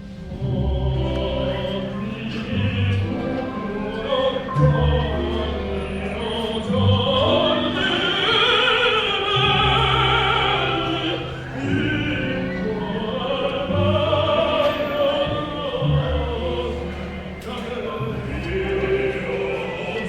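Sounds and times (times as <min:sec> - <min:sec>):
sustained low accompanying notes: 0:00.0 - 0:20.0
operatic voice singing with vibrato: 0:00.1 - 0:20.0.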